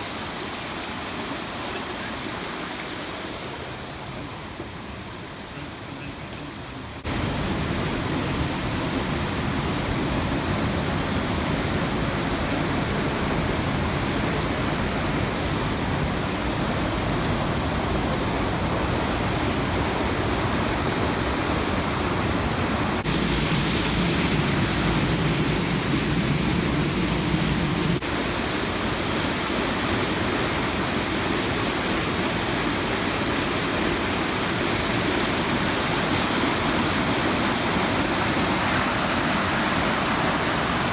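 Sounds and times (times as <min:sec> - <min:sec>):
rushing water roar: 0:00.0 - 0:40.9.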